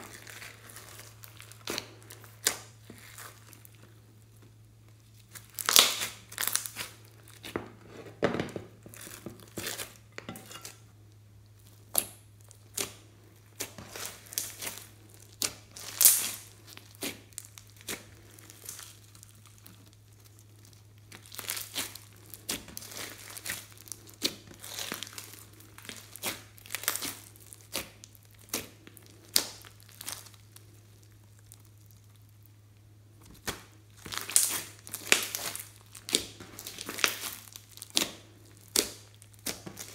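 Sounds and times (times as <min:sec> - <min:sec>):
slime crackling and popping: 0:00.0 - 0:07.6, 0:11.1 - 0:39.9.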